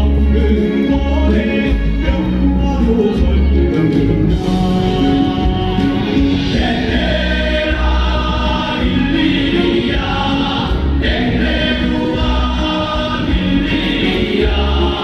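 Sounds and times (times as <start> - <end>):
group of voices singing: 0.0 - 15.0
instrumental backing with deep bass: 0.0 - 15.0.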